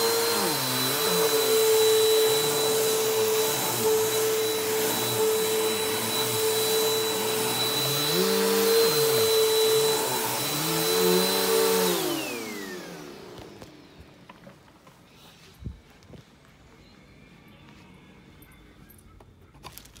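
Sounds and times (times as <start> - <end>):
vacuum cleaner motor whine: 0.0 - 17.9.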